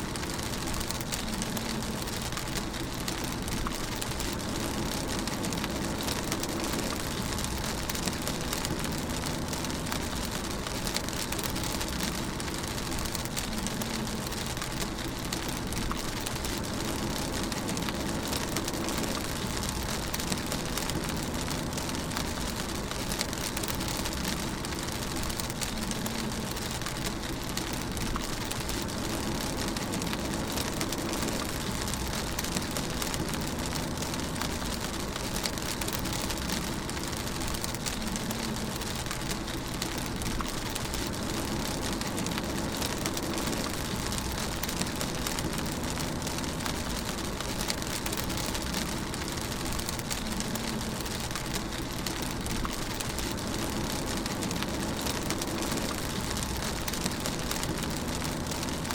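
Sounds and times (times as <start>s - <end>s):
rain pattering on car roof: 0.0s - 58.9s.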